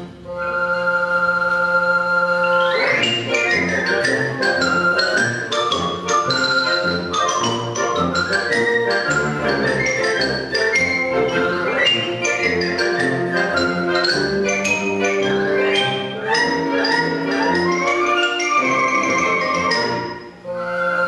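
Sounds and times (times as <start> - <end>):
concert band playing brisk tune: 0.0 - 21.0.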